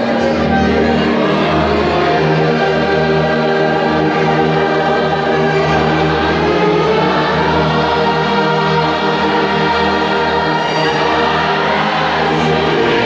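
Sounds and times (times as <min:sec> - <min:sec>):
congregation singing a hymn: 0:00.0 - 0:13.0
orchestra of strings and brass: 0:00.0 - 0:13.0.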